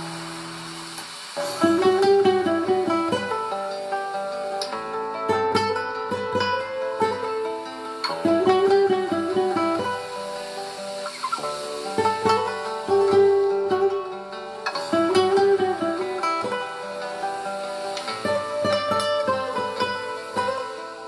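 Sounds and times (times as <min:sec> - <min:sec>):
flamenco guitar fingerstyle: 0:00.0 - 0:21.0.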